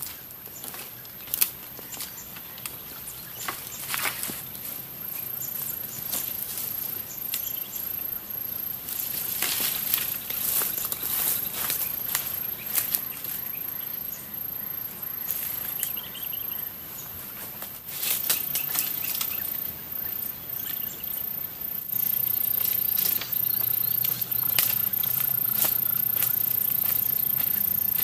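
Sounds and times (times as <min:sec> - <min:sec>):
footsteps in dry leaves: 0:00.0 - 0:07.4, 0:08.6 - 0:21.2, 0:21.8 - 0:28.0
high-pitched whine: 0:04.2 - 0:28.0.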